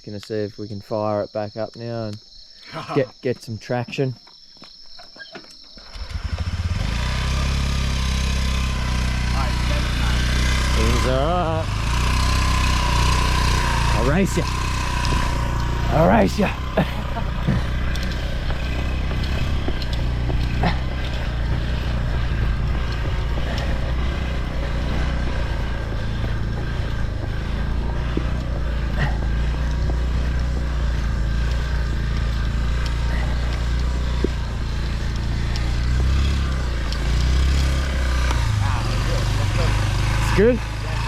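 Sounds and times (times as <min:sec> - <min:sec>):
motorbike engine rumbling: 0:05.2 - 0:41.0.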